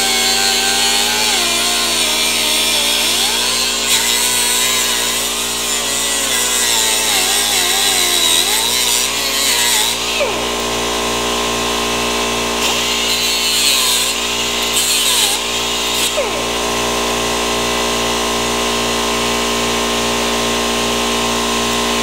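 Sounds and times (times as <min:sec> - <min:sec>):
power grinder on metal: 0:00.0 - 0:22.0.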